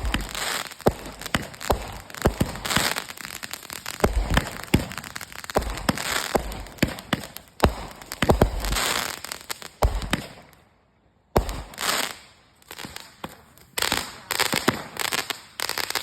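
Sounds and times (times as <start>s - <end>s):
fireworks crackling hiss: 0.0s - 10.5s, 11.4s - 16.0s
fireworks bangs: 0.0s - 10.6s, 11.4s - 16.0s.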